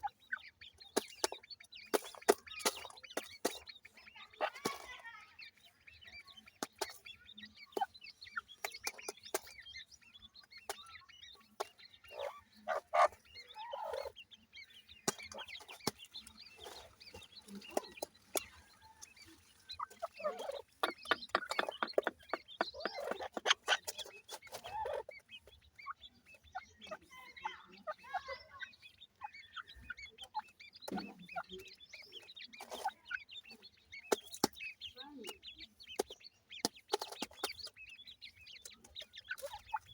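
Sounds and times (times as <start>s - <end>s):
chicks cheeping and clucking: 0.0s - 39.9s.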